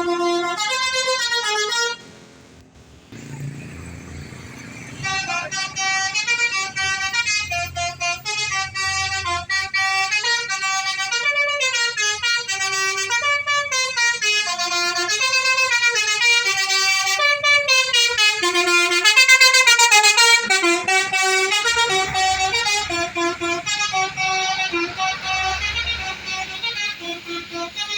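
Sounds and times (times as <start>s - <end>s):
multi-tone bus horn melody: 0.0s - 2.2s, 2.9s - 27.9s.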